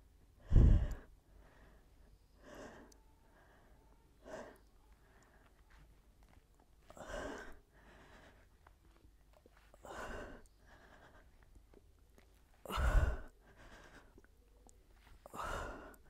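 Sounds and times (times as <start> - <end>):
woman breathing heavily: 0.0 - 16.0.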